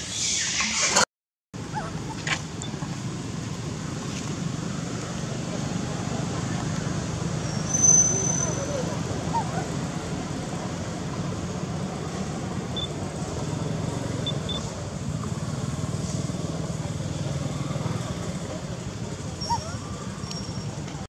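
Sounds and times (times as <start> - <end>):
low outdoor rumble: 1.6 - 21.0.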